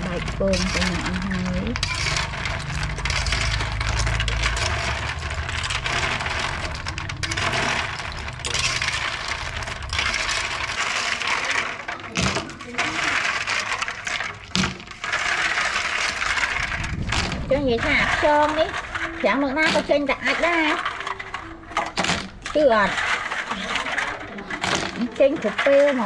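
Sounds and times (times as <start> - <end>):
snail shells clinking: 0.0 - 26.0
water sloshing: 0.0 - 26.0.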